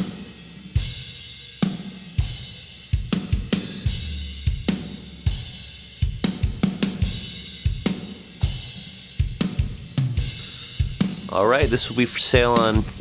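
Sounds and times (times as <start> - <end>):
drum kit beat with spring reverb: 0.0 - 13.0.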